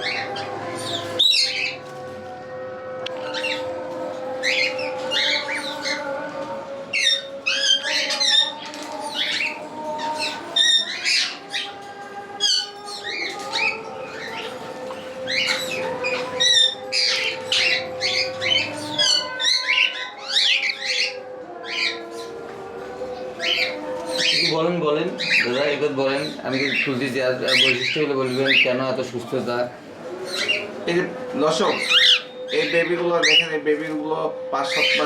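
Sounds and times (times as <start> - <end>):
cockatiels squawking and chirping: 0.0 - 1.9, 3.2 - 3.7, 4.4 - 6.2, 6.9 - 22.4, 23.2 - 29.7, 30.3 - 34.0, 34.6 - 35.0.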